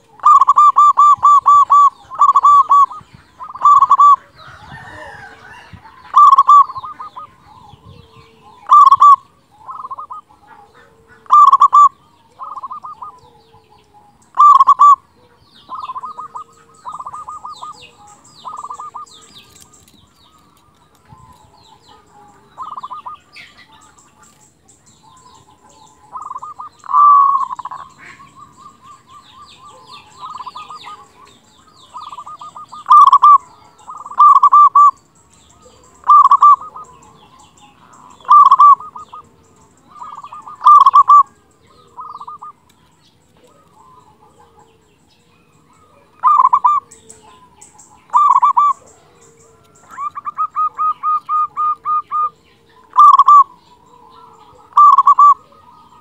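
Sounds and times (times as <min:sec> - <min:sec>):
dove cooing: 0:00.0 - 0:42.7, 0:43.3 - 0:56.0
small birds chirping: 0:00.0 - 0:56.0.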